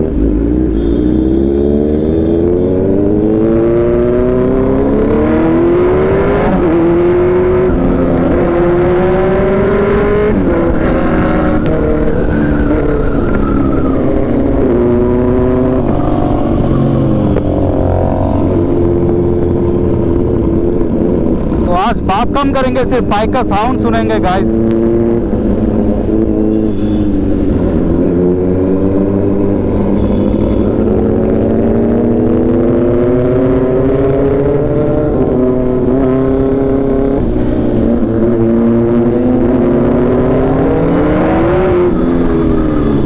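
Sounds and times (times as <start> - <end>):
motorcycle engine revving through gears: 0.0 - 43.0.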